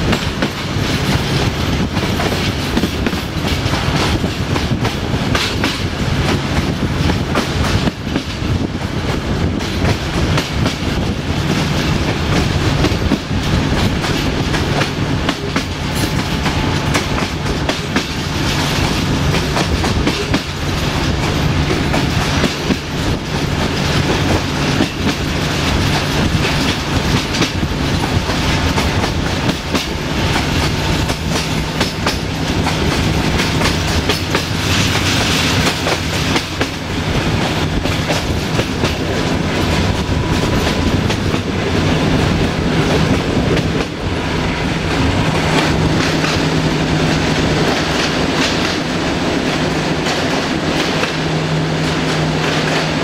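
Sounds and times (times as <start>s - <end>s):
low hum of locomotive engine: 0.0s - 53.0s
train running gear rumble: 0.0s - 53.0s
wheels clicking over rail joints: 0.0s - 53.0s.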